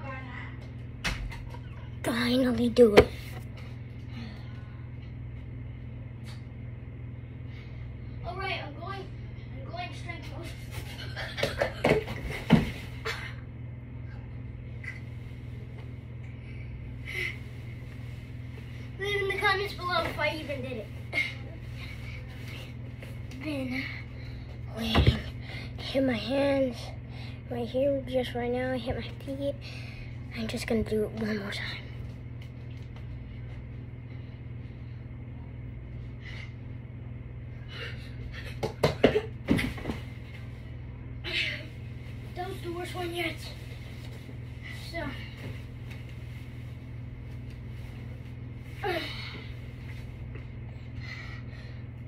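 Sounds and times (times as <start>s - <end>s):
ceiling fan humming: 0.0s - 52.0s.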